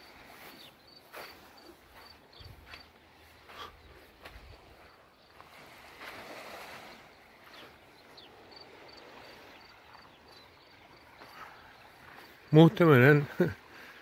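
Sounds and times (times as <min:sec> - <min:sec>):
small waves lapping on shore: 0:00.0 - 0:14.0.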